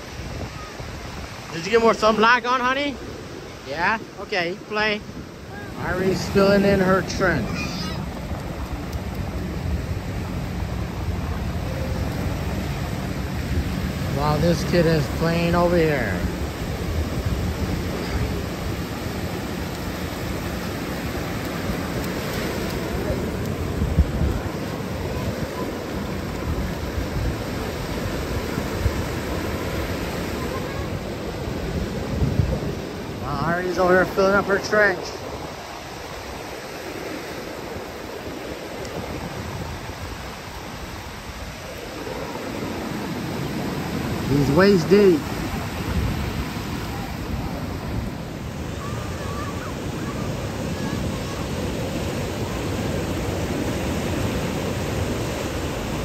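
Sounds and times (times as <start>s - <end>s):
surf washing onto beach: 0.0s - 56.0s.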